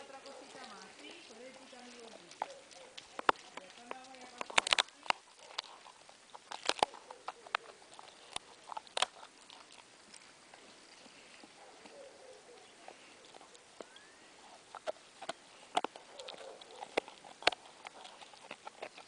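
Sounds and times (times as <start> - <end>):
dog chewing on a bone: 0.0 - 19.0.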